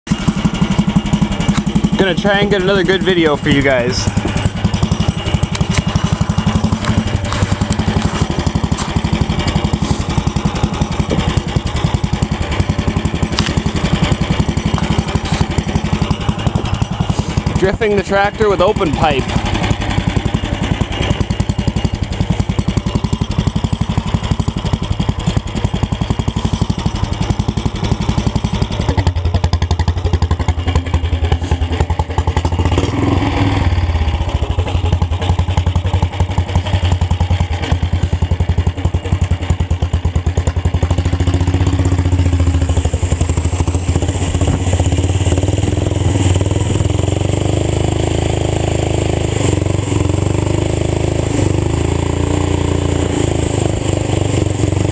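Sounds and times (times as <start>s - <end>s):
tractor engine exhaust pulses: 0.1s - 54.9s.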